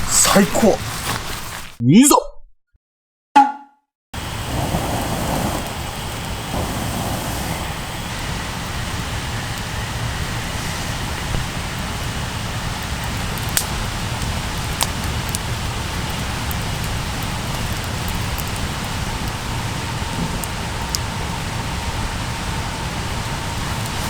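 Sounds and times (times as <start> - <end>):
rushing hiss and low rumble: 0.0 - 1.7, 4.2 - 24.0
campfire crackling: 0.0 - 1.8, 4.2 - 24.0
sharp fire pops: 4.2 - 24.0.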